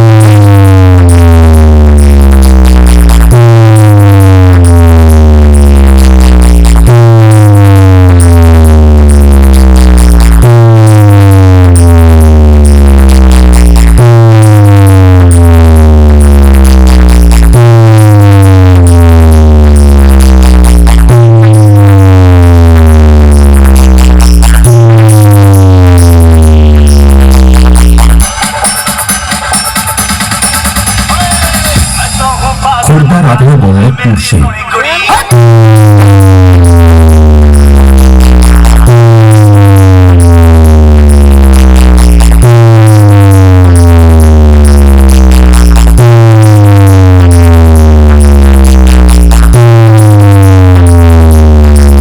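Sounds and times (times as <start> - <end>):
heavy deep bass note: 0.0 - 28.3, 31.8 - 52.0.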